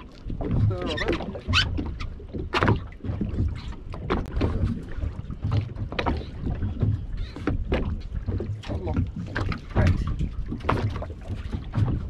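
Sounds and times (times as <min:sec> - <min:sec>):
water slapping against boat hull: 0:00.0 - 0:12.0.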